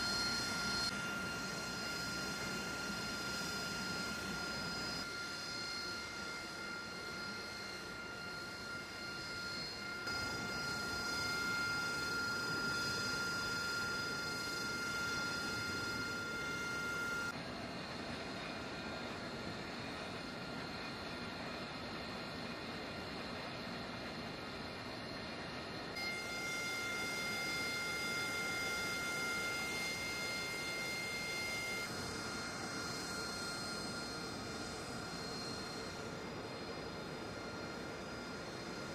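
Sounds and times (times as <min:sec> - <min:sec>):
jet engine idling whine: 0:00.0 - 0:38.9.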